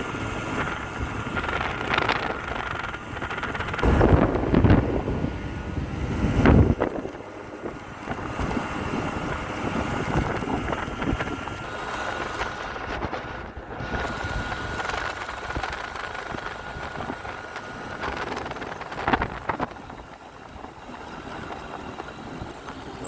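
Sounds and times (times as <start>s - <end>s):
scooter engine running: 0.0s - 23.0s.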